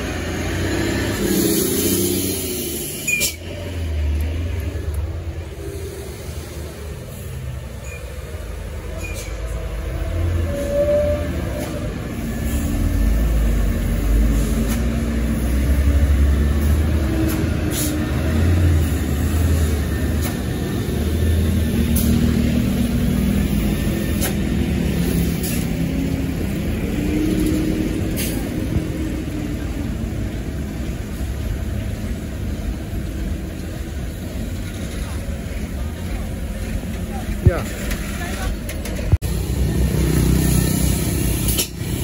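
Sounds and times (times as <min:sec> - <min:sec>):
diesel truck engines rumbling: 0:00.0 - 0:42.0.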